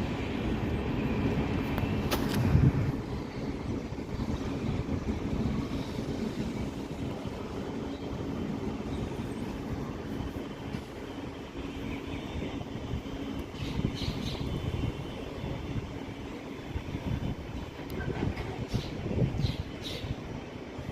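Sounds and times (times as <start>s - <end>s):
train rumbling: 0.0s - 20.9s.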